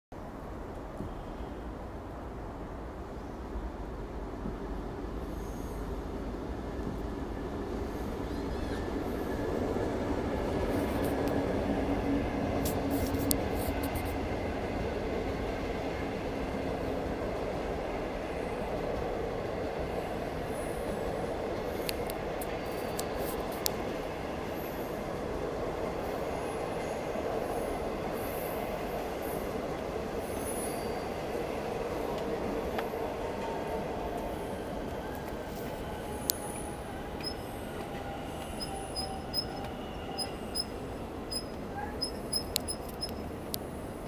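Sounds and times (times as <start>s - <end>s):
train wheels rumbling on rails: 3.9s - 44.0s.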